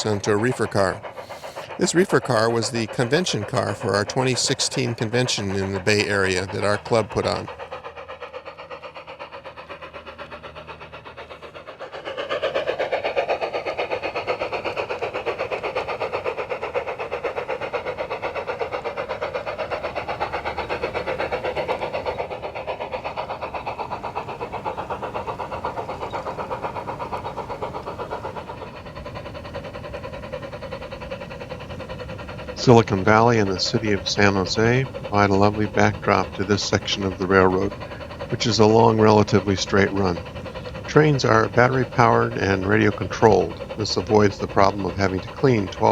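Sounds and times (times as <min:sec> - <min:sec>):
model train running on track: 0:00.0 - 0:45.9.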